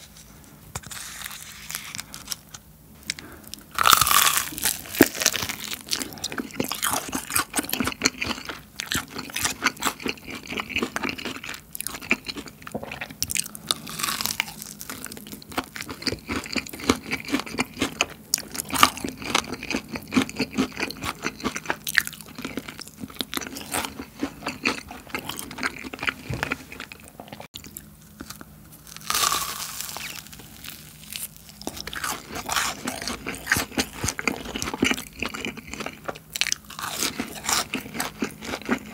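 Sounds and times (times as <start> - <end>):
crunching fried chicken: 0.8 - 38.9.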